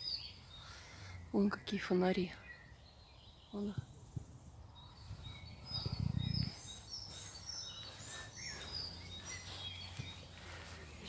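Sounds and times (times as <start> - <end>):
outdoor background noise: 0.0 - 11.0
small birds chirping: 0.0 - 11.0.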